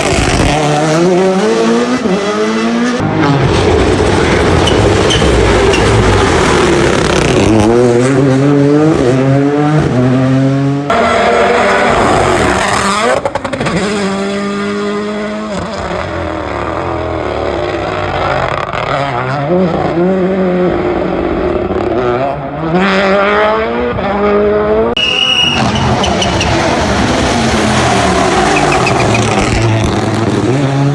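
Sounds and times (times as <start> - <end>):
rally car engines revving: 0.0 - 30.9.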